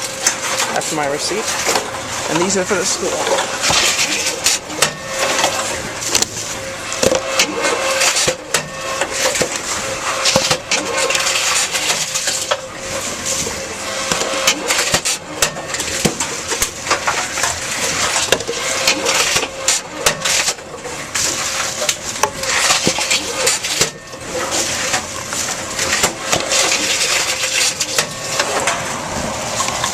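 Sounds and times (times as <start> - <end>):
containers clattering and crunching: 0.0 - 29.9
machine humming: 0.0 - 29.9.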